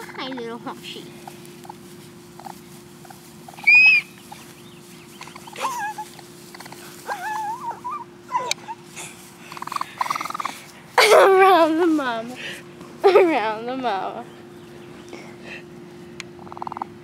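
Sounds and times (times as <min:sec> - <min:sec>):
baby raccoons calling: 0:00.0 - 0:13.2, 0:13.8 - 0:17.0.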